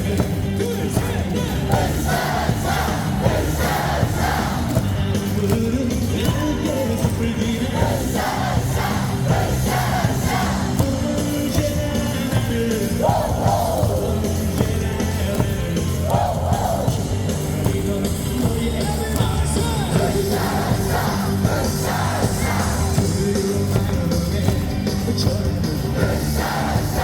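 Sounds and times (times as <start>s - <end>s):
crowd singing and shouting: 0.0s - 27.0s
loud music over sound system: 0.0s - 27.0s.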